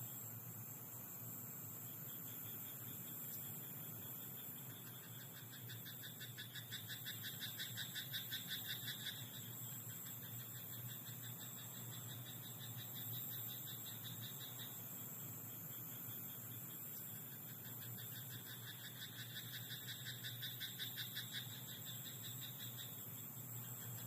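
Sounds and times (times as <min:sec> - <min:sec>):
frogs croaking: 0:00.0 - 0:24.0
steady background hiss: 0:00.0 - 0:24.0
faint pulsed frog call: 0:02.0 - 0:24.0.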